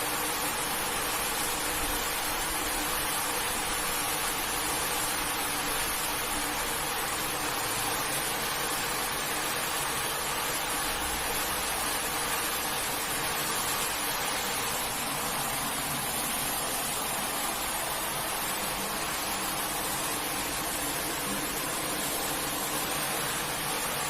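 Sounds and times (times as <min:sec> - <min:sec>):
pressure washer spraying carpet: 0:00.0 - 0:24.0.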